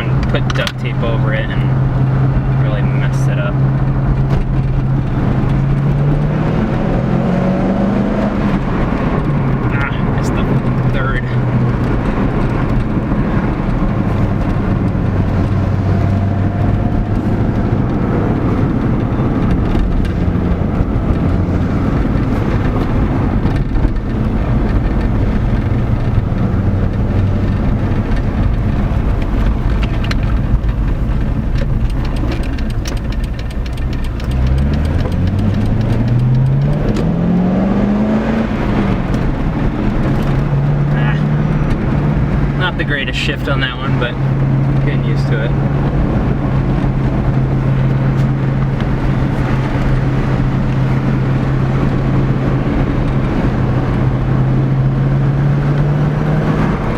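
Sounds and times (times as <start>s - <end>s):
car engine running: 0.0s - 56.9s
gear upshift: 0.0s - 56.9s
road noise: 0.0s - 56.9s.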